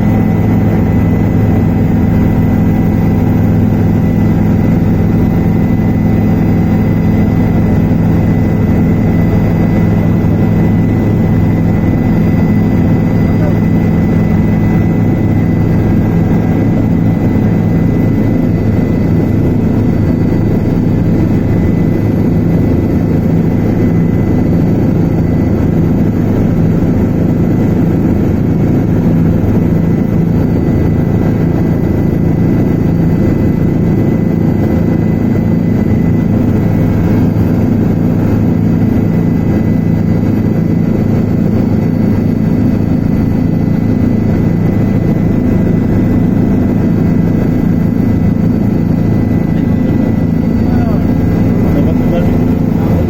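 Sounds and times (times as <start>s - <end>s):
helicopter engine and rotor drone: 0.0s - 53.0s.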